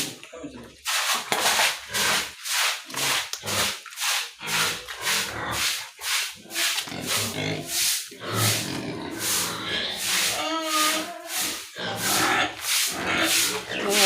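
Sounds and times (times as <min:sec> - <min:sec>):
pigs grunting and snorting: 0:01.8 - 0:14.0.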